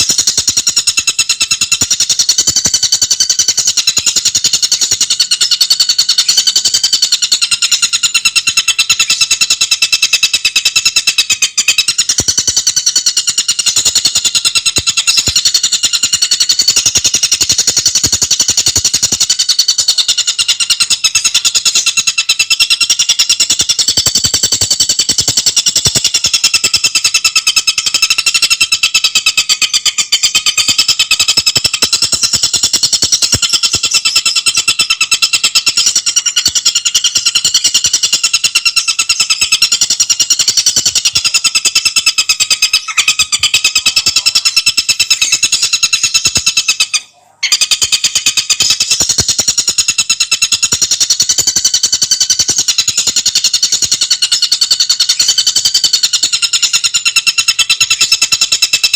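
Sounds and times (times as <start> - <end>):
bird chattering rapidly: 0.0 - 58.9.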